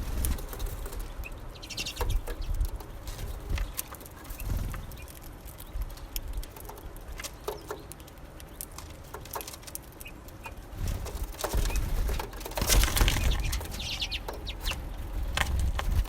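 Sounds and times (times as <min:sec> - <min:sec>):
bird calls: 0:00.0 - 0:16.0
birds pecking and landing: 0:00.0 - 0:16.0.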